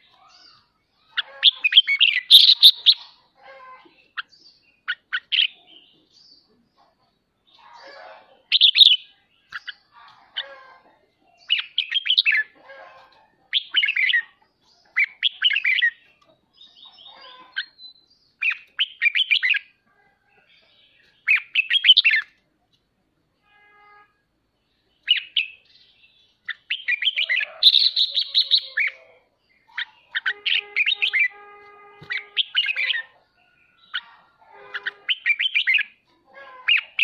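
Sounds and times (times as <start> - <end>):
bird chattering: 0.0 - 6.0, 7.6 - 19.8, 20.5 - 22.4, 26.4 - 31.4, 32.0 - 37.0.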